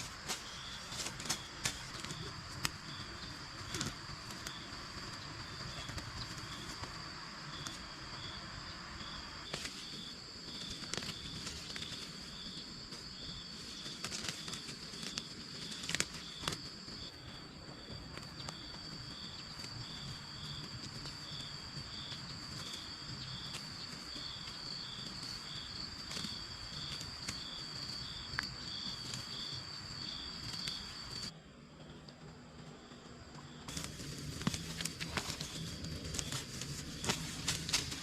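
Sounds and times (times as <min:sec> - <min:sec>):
insect chirping: 0:00.0 - 0:38.0
insect drone: 0:00.0 - 0:38.0.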